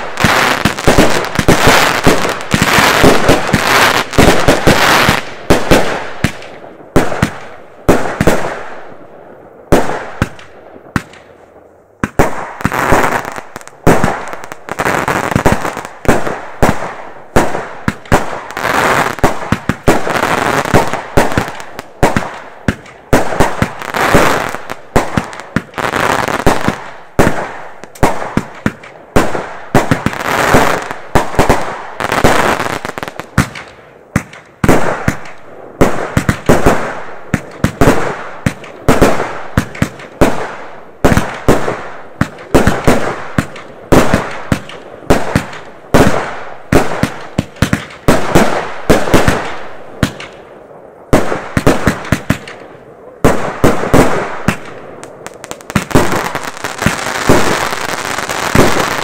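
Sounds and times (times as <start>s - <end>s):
fireworks bangs: 0.0s - 9.0s, 9.7s - 11.4s, 12.0s - 50.5s, 51.1s - 59.0s
crackling hiss of fireworks: 0.0s - 59.0s.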